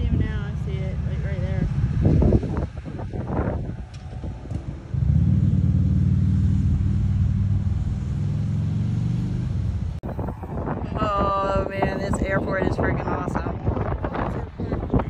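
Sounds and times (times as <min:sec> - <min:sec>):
loud low engine drone: 0:00.0 - 0:15.0.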